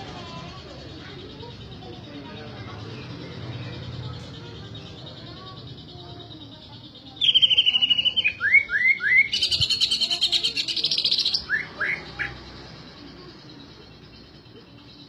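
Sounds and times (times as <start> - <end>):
bird rattling trill: 0.1 - 12.7.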